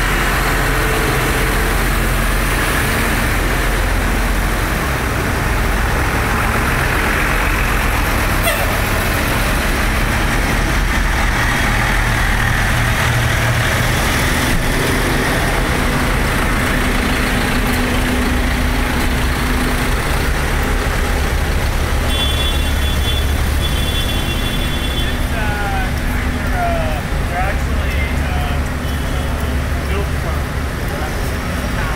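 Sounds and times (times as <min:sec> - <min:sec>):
tractor diesel engines rumbling: 0:00.0 - 0:31.9.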